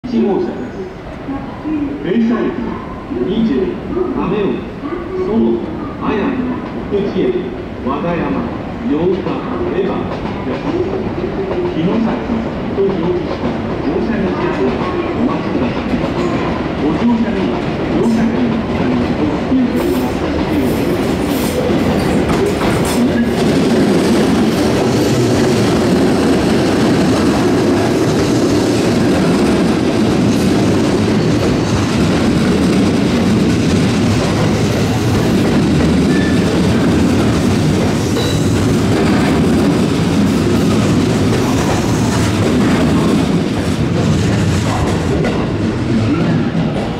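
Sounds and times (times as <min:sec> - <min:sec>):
train wheels on rails: 0:09.0 - 0:46.9.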